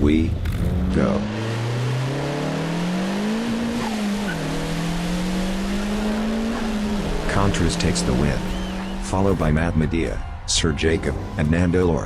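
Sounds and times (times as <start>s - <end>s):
race car engine accelerating: 0.3s - 10.5s.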